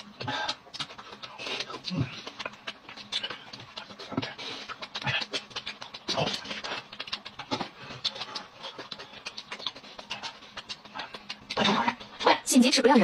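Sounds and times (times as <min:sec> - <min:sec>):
wet slurping: 0:00.0 - 0:12.3
people eating noisily: 0:00.0 - 0:12.4.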